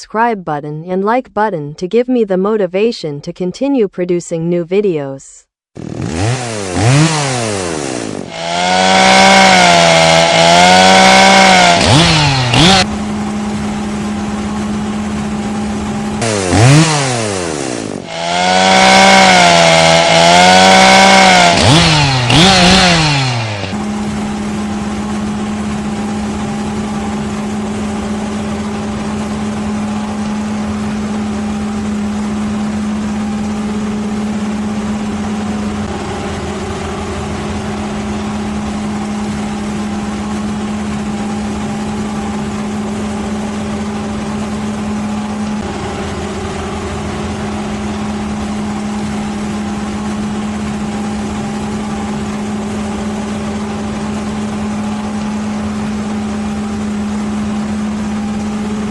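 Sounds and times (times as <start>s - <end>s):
engine running steadily: 5.8s - 58.9s.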